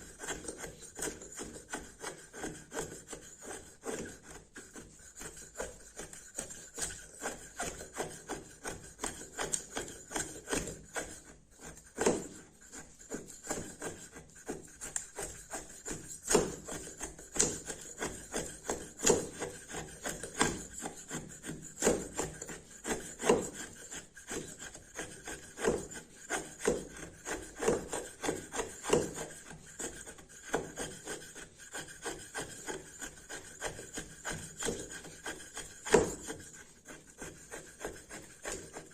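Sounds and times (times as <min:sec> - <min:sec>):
knife scraping wood: 0:00.0 - 0:38.9.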